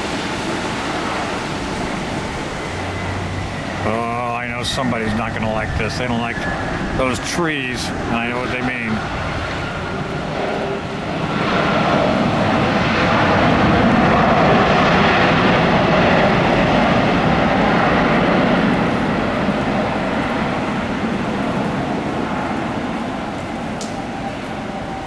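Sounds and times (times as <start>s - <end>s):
airliner engine passing: 0.0s - 25.0s.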